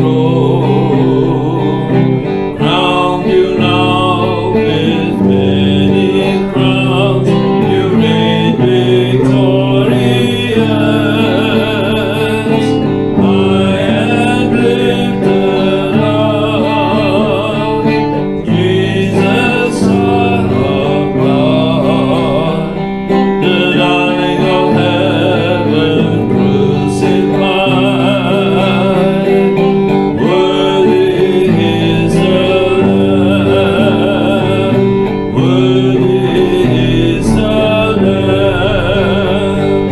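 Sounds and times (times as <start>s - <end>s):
band playing worship music: 0.0s - 39.9s
voices singing: 0.0s - 39.9s.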